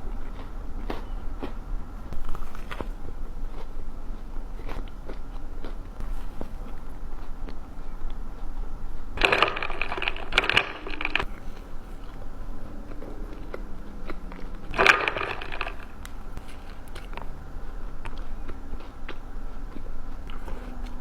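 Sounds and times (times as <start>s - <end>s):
crunchy food chewing: 0.0s - 21.0s.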